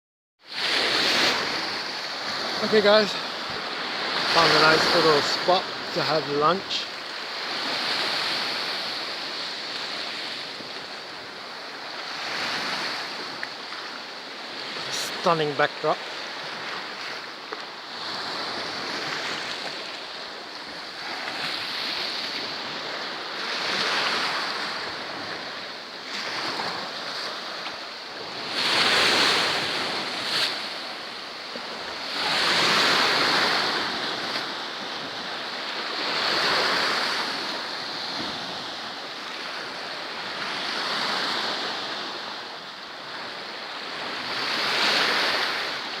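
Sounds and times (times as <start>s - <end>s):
sea waves washing onto shore: 0.5s - 46.0s.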